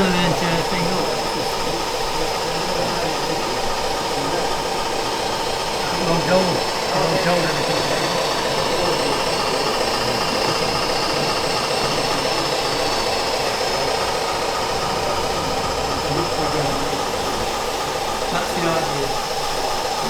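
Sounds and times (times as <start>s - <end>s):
mechanical whirring with high whine: 0.0s - 20.0s.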